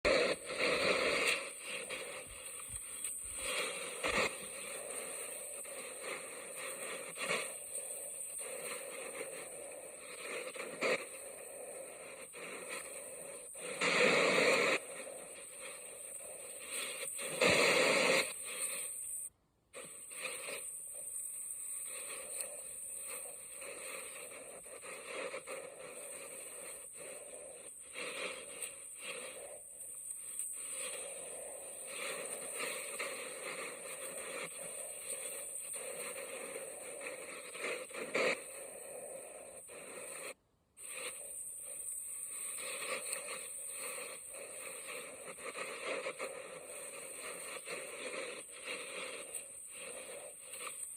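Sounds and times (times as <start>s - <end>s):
sea waves washing: 0.1s - 50.9s.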